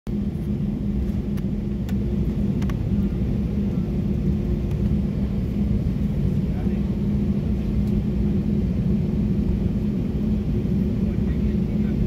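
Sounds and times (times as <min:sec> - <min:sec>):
jet engines rumbling: 0:00.1 - 0:12.0
steady hum: 0:00.1 - 0:12.0.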